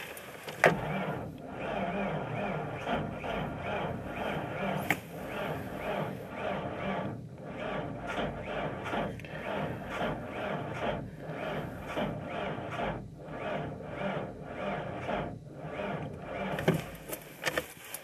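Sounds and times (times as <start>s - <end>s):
starter cranking engine slowly: 0.0s - 18.0s.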